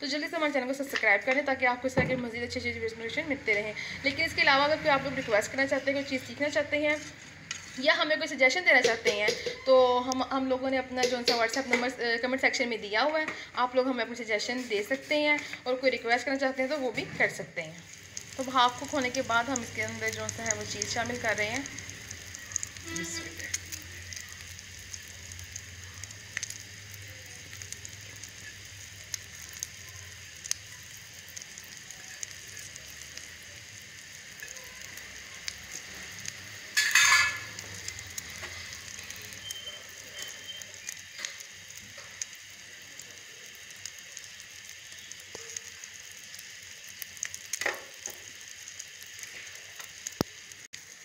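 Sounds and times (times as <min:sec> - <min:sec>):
omelette sizzling in a frying pan: 0:00.0 - 0:51.0.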